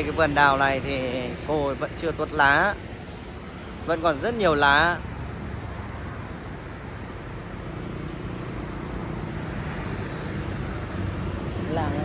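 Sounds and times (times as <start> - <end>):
engine hum: 0.0 - 12.0
passing vehicles rushing: 0.0 - 12.0.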